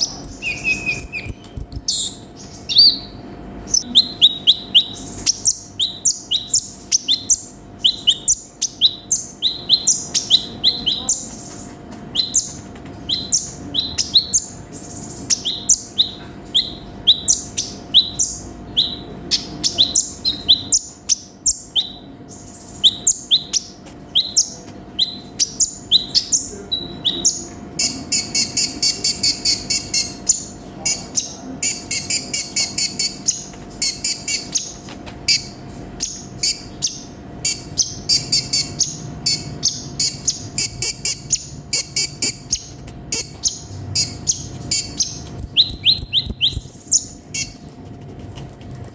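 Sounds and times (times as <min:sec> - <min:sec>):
buzzy rattling bird trill: 0:00.0 - 0:26.5, 0:27.1 - 0:48.9
bird chirping high: 0:00.0 - 0:48.9.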